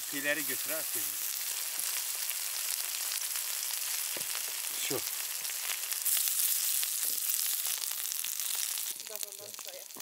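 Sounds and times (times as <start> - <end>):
chicken sizzling on hot stones: 0.0 - 10.0.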